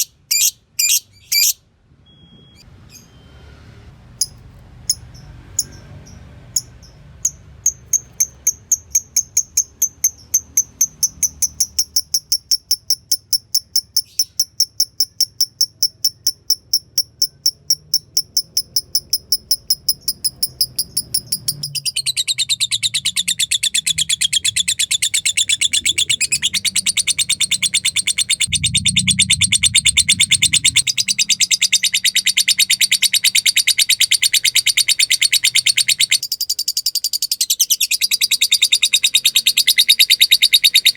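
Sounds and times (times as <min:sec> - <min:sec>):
lovebird chattering: 0:00.0 - 0:01.6, 0:04.2 - 0:40.9.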